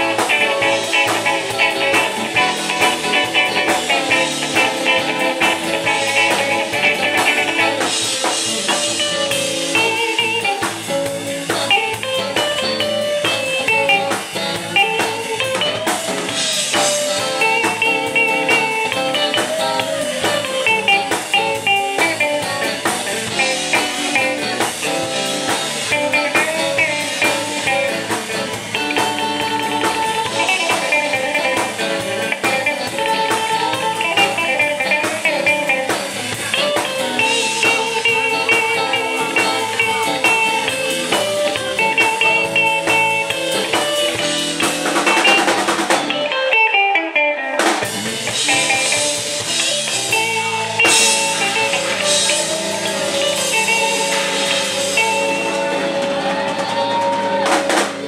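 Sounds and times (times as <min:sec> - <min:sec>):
electric blues band playing: 0:00.0 - 0:58.0
electric guitar lead: 0:00.0 - 0:58.0.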